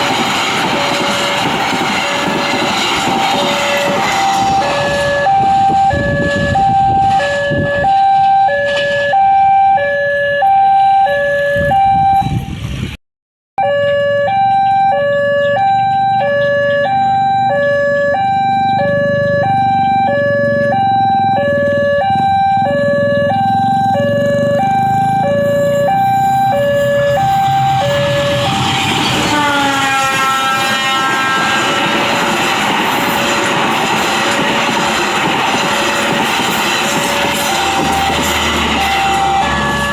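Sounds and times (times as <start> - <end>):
two-tone warning alarm: 0.0 - 12.5, 13.6 - 39.9.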